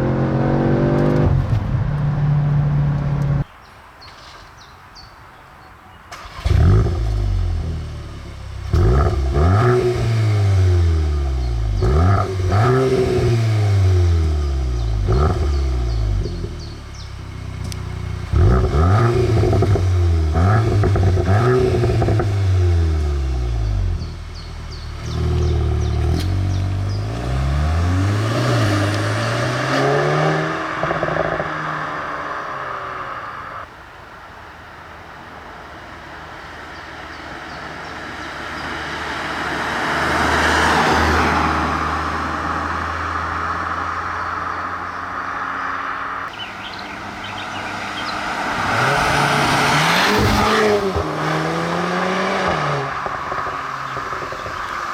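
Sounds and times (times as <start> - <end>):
car engine accelerating through gears: 0.0 - 3.5, 6.1 - 33.7, 36.8 - 54.9.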